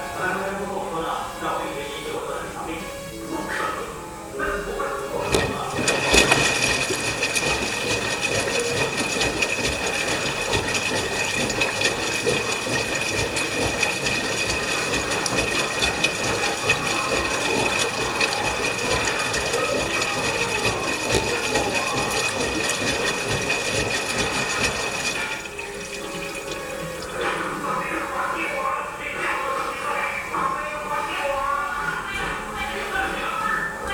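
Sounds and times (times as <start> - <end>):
washing machine filling with water: 4.2 - 33.9.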